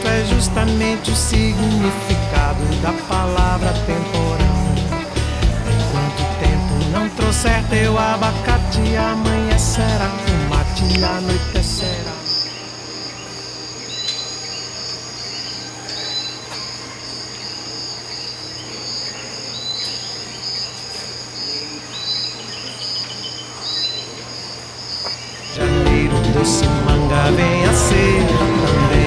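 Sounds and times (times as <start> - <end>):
night insects trilling: 0.0 - 25.6.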